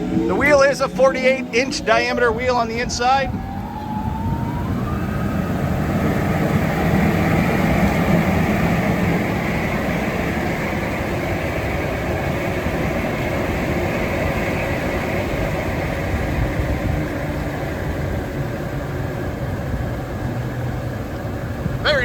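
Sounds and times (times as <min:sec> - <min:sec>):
exhaust blower running: 0:00.0 - 0:22.0.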